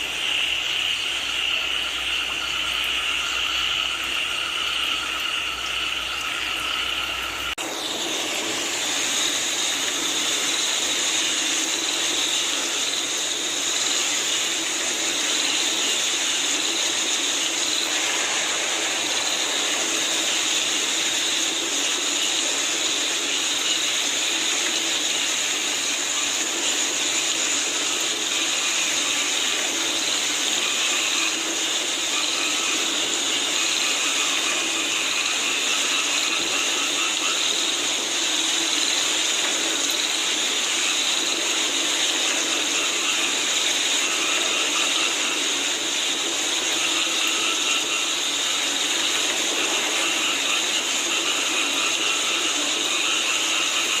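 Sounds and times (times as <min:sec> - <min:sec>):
frogs calling: 0:00.0 - 0:54.0
insects chirring: 0:00.0 - 0:54.0
steady rain falling: 0:00.0 - 0:54.0.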